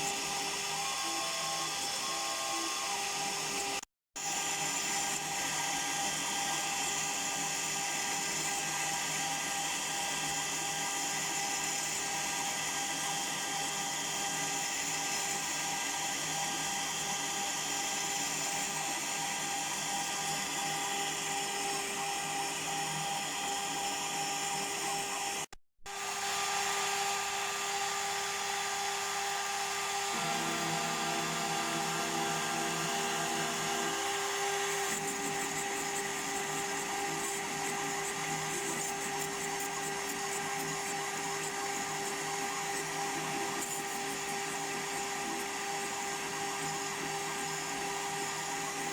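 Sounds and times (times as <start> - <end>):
router spindle whining: 0.0 - 48.9.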